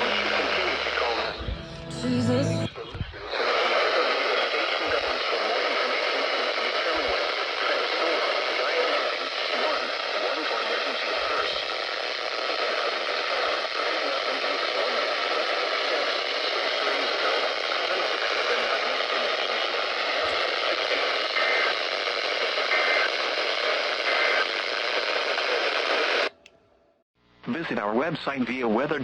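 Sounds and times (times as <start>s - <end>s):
radio static hiss: 0.0s - 26.3s, 27.4s - 29.0s.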